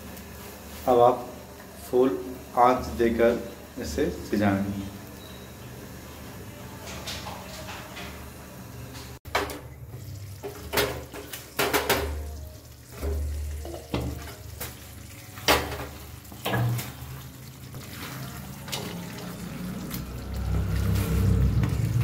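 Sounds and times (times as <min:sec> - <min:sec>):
gravy sizzling and bubbling: 0:00.0 - 0:22.0.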